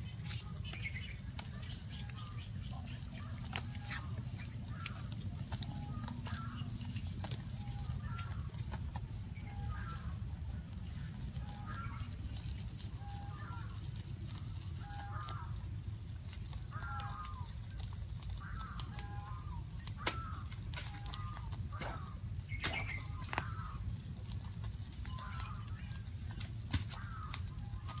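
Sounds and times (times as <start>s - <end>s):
bird calling: 0.0s - 28.0s
steady low rumble: 0.0s - 28.0s.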